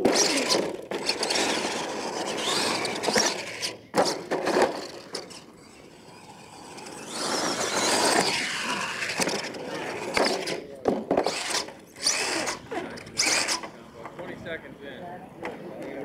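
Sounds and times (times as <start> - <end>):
toy monster truck driving on dirt: 0.0 - 14.6.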